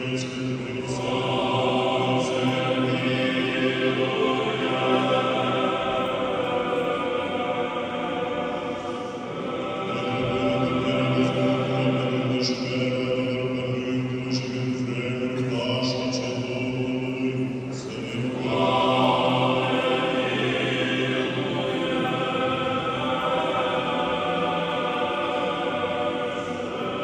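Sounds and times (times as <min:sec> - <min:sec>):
choir chanting: 0:00.0 - 0:27.0.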